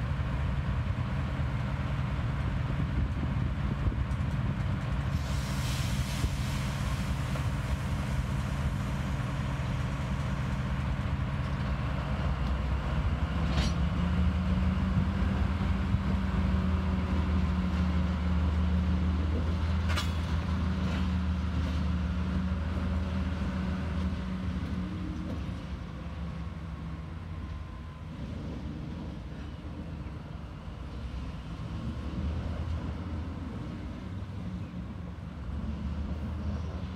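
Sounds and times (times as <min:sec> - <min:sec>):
diesel locomotive engine drone: 0:00.0 - 0:36.9.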